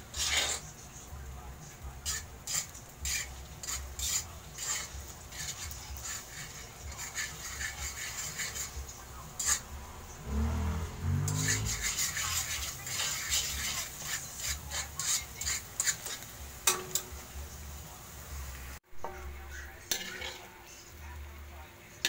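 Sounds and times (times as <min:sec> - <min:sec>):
metal spatula scraping a wok: 0:00.0 - 0:01.1, 0:01.7 - 0:18.2, 0:19.0 - 0:21.0.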